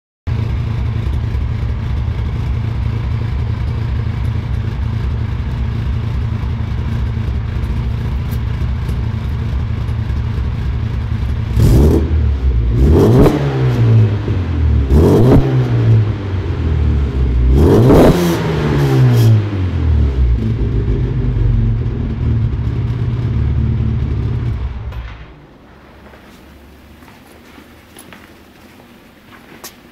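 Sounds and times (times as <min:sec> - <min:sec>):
car engine idling and revving: 0:00.3 - 0:25.4.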